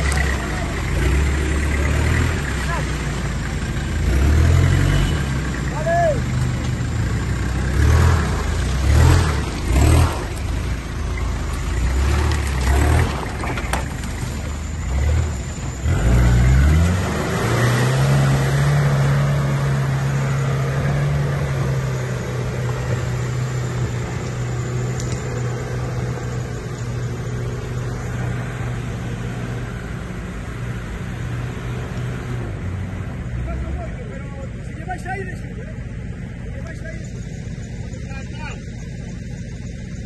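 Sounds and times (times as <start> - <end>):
off-road engine revving: 0.0 - 40.0.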